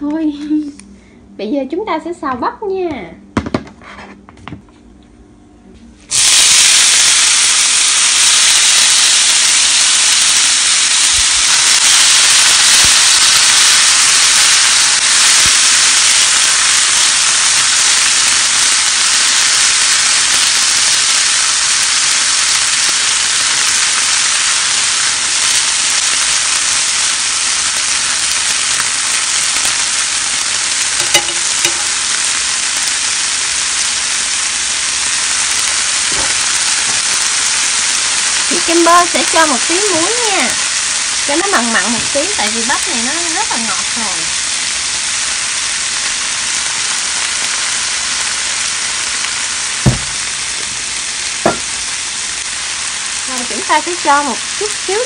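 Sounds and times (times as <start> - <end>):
corn kernels popping: 6.1 - 55.0
corn sizzling in frying pan: 6.1 - 55.0.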